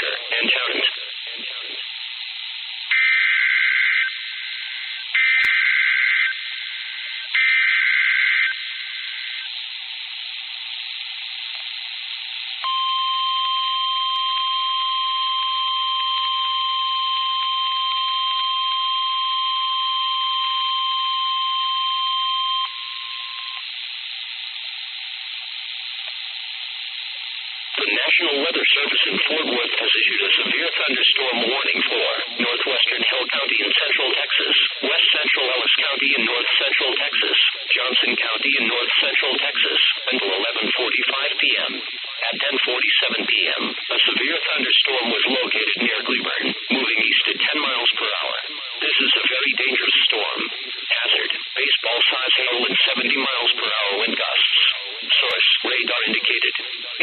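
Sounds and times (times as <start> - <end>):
radio hiss: 0.0 - 5.6, 6.2 - 12.8, 15.0 - 57.0.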